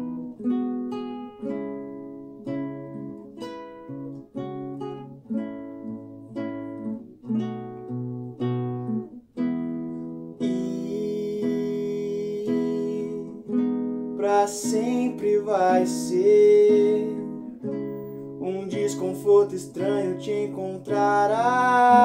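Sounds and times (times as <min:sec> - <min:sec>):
fingerpicked classical guitar: 0:00.0 - 0:22.0.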